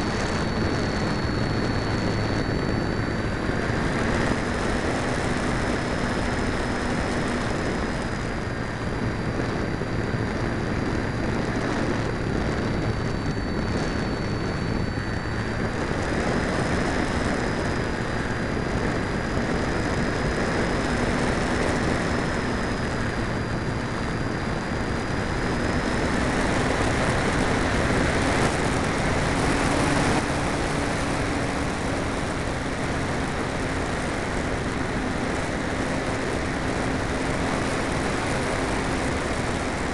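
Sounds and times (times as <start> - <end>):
faint steady drone: 0.0 - 39.9
rush of airflow: 0.0 - 39.9
thin high whine: 0.0 - 39.9.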